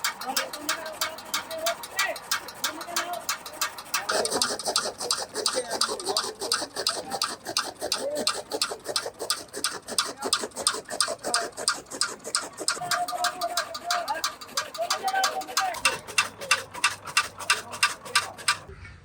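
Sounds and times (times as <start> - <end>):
rapid rhythmic scraping: 0.0 - 18.7.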